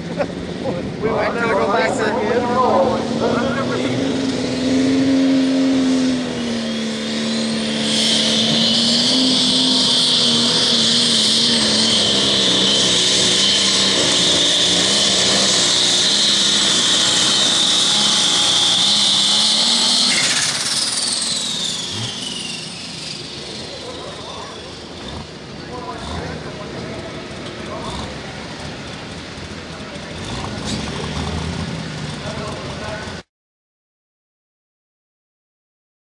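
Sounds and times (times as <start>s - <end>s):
diesel engine running hard: 0.0s - 33.3s
high turbo whine: 0.0s - 33.3s.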